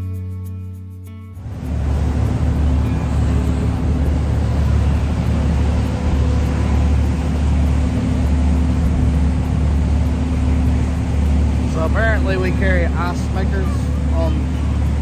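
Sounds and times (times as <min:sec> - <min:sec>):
wind noise on microphone: 0:00.1 - 0:15.0
ferry engines droning: 0:01.4 - 0:15.0.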